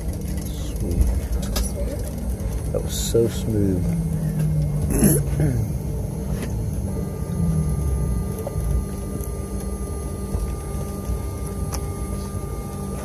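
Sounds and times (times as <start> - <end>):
faint whining tones: 0.0 - 13.0
jet engines rumbling: 0.0 - 13.0.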